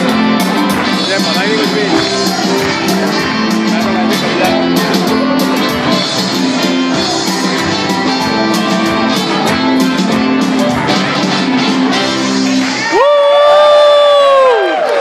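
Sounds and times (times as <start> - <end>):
band playing upbeat song: 0.0 - 13.7.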